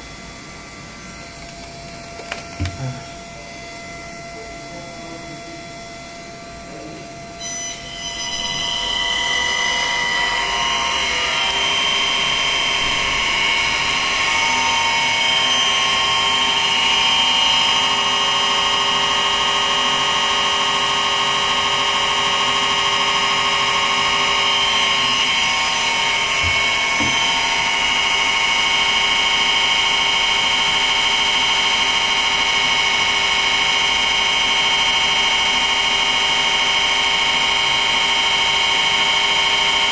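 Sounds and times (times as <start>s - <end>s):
electric motor running: 0.0s - 6.5s, 8.3s - 39.9s
high-pitched switching whine: 0.0s - 39.9s.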